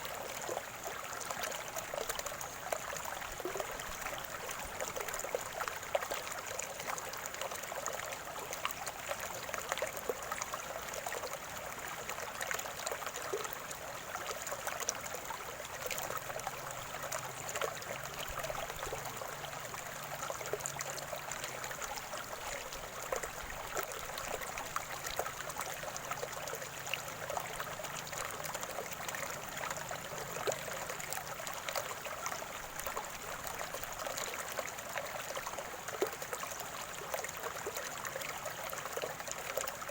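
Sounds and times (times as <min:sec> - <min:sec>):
stream gurgling and trickling: 0:00.0 - 0:39.9.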